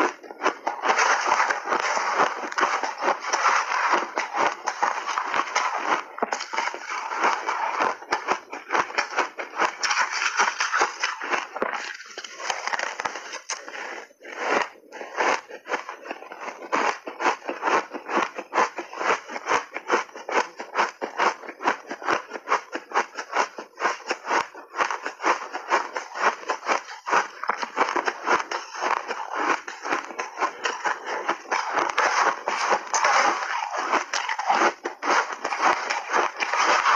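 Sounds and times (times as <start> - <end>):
ice crunching while chewed: 0.0 - 36.9.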